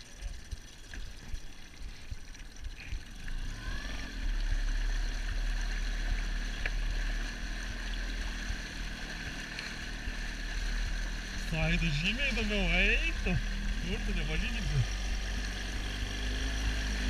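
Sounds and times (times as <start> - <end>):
outboard motor running: 0.0 - 17.0
water churning: 0.6 - 15.3.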